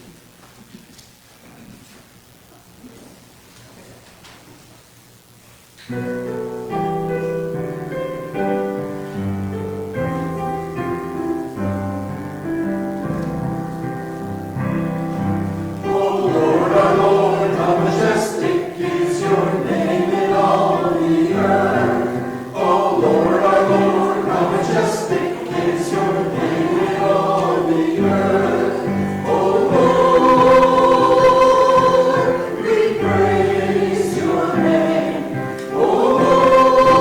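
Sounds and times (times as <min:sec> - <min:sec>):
congregation singing: 0:05.9 - 0:37.0
piano playing hymn chords: 0:05.9 - 0:37.0.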